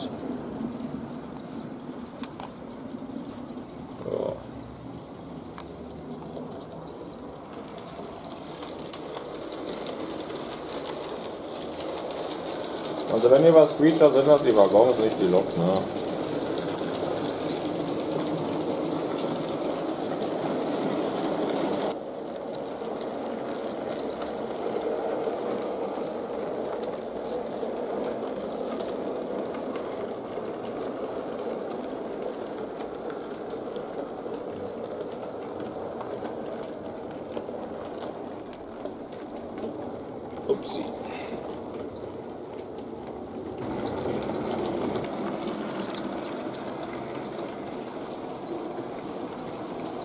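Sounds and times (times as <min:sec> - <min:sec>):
model train motor purring: 0:00.0 - 0:39.7, 0:43.6 - 0:50.0
wheels rolling on track: 0:00.0 - 0:50.0.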